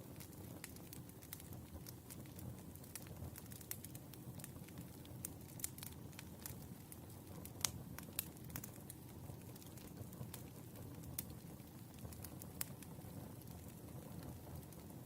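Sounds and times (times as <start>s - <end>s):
low rumble of burning logs: 0.0s - 15.0s
wood fire crackling: 0.0s - 15.0s.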